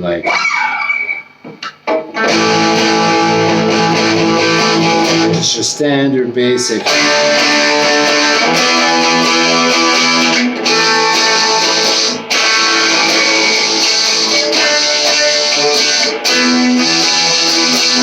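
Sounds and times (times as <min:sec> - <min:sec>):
electric guitar strumming rock chords: 0:00.0 - 0:18.0.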